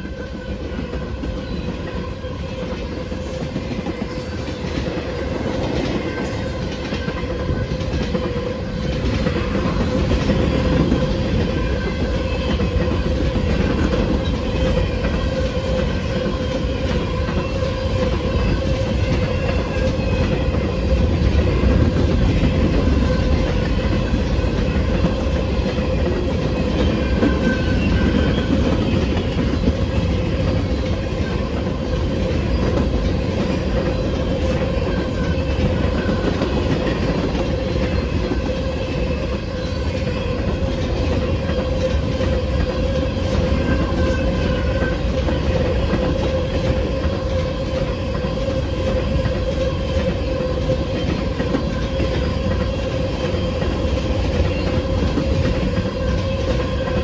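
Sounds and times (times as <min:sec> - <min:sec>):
train cars rumbling on rails: 0:00.0 - 0:57.0.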